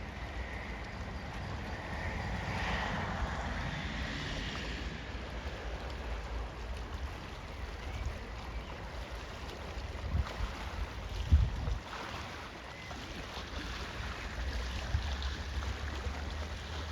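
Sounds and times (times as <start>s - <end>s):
wind rumbling on microphone: 0.0s - 16.9s.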